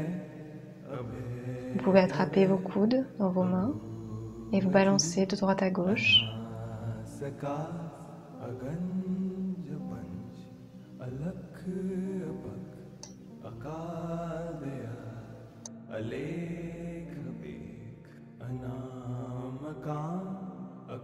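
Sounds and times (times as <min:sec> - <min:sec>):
calm chanted vocal: 0:00.0 - 0:21.0.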